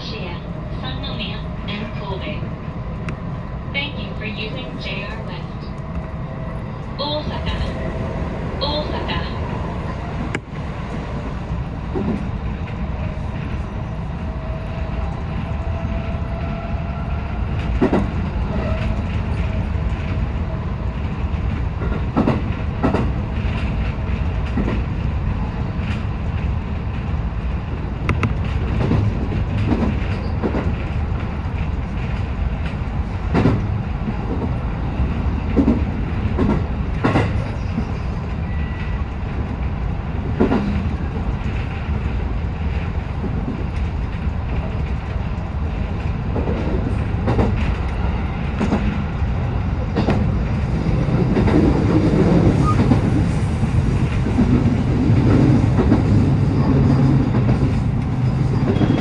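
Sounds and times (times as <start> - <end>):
electric train rumbling on rails: 0.0 - 59.0.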